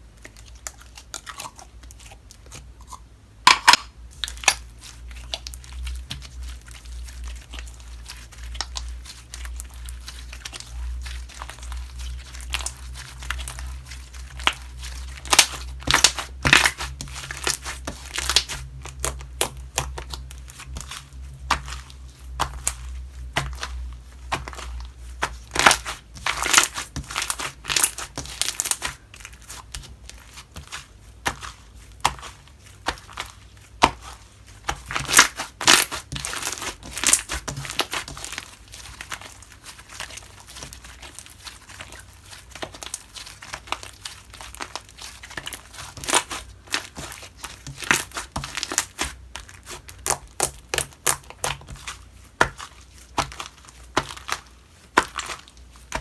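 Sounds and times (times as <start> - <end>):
slime crackling and popping: 3.4 - 56.0.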